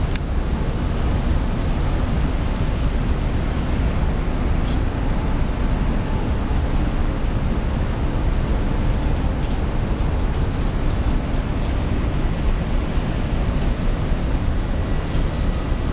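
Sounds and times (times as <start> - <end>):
ferry engine rumble: 0.0 - 15.9
wind buffeting microphone: 0.0 - 15.9.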